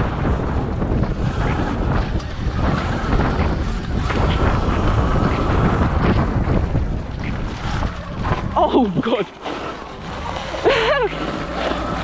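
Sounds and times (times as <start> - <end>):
tyres rumbling on gravel: 0.0 - 12.0
wind buffeting microphone: 0.0 - 12.0.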